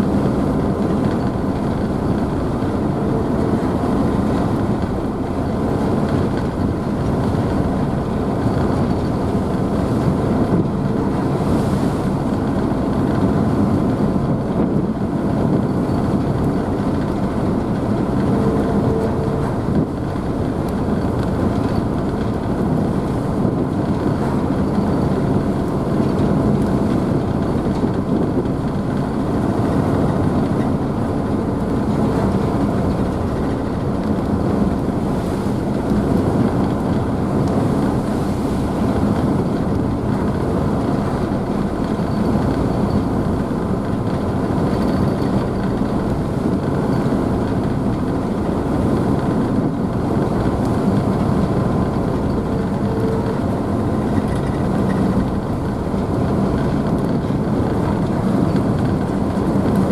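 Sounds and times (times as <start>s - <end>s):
churning wake water: 0.0s - 59.9s
ship engines rumbling: 0.0s - 59.9s.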